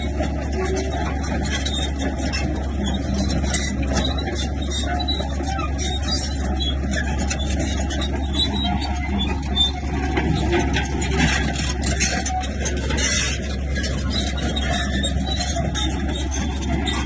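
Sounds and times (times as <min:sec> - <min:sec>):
bulldozer diesel engine droning: 0:00.0 - 0:17.0
machine grinding and scraping: 0:00.0 - 0:17.0
short high squeaks: 0:00.0 - 0:17.0.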